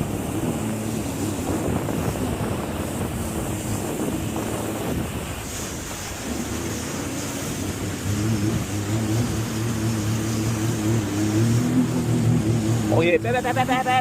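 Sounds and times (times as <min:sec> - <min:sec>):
jet ski engine running: 0:00.0 - 0:14.0
water rushing: 0:00.0 - 0:14.0
wind buffeting microphone: 0:00.0 - 0:14.0.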